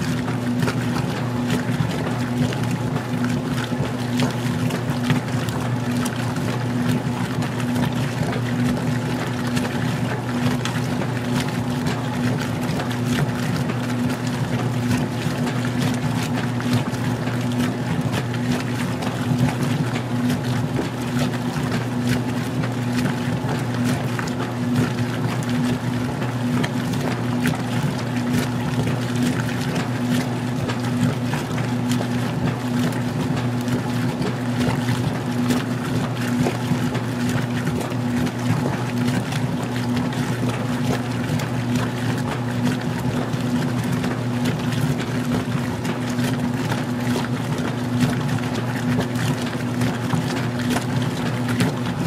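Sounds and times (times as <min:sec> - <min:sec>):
washing machine motor humming: 0:00.0 - 0:52.0
water sloshing in tub: 0:00.0 - 0:52.0.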